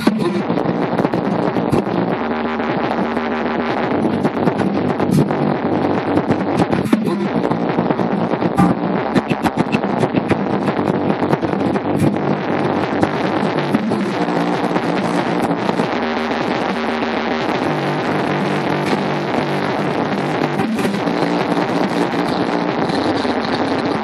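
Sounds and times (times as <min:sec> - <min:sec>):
drum and bass music: 0:00.0 - 0:24.0.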